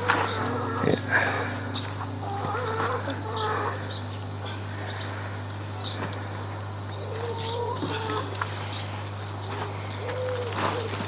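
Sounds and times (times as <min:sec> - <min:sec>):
lower wavering bird calls: 0:00.0 - 0:08.9
small birds chirping: 0:00.0 - 0:11.0
steady low hum: 0:00.0 - 0:11.0.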